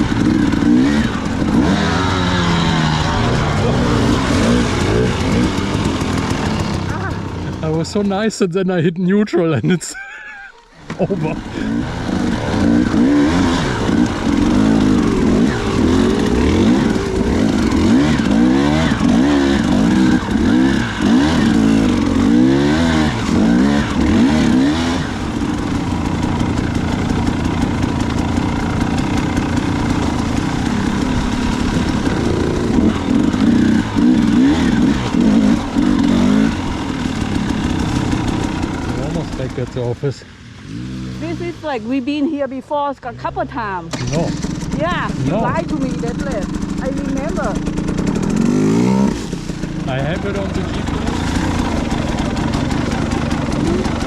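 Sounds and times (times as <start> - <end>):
dirt bike engine revving: 0.0 - 8.3, 10.7 - 54.0.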